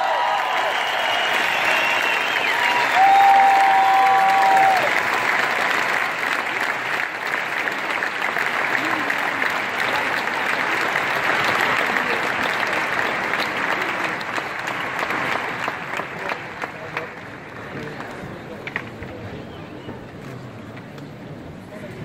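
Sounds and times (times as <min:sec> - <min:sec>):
audience clapping: 0:00.0 - 0:20.2
voices in crowd: 0:00.0 - 0:22.0.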